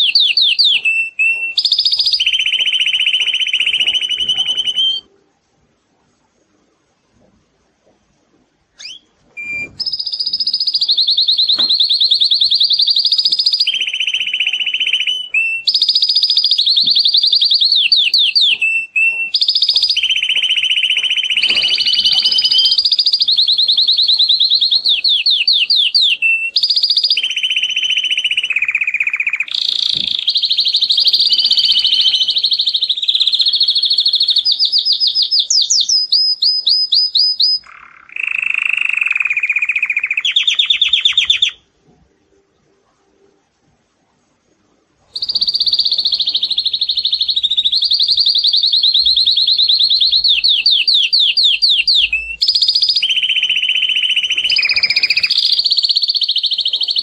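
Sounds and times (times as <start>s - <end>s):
canary singing trills: 0.0s - 5.1s, 8.7s - 41.7s, 45.1s - 57.0s.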